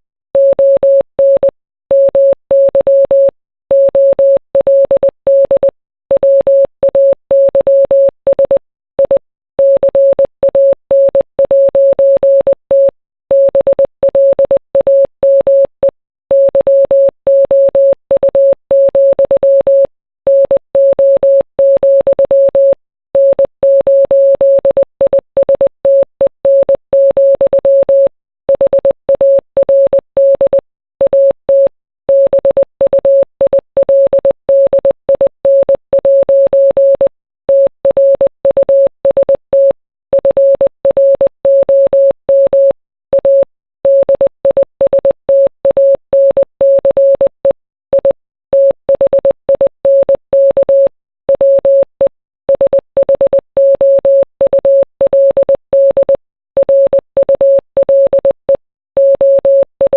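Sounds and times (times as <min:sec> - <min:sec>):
morse code beeps: 0:00.4 - 0:59.9.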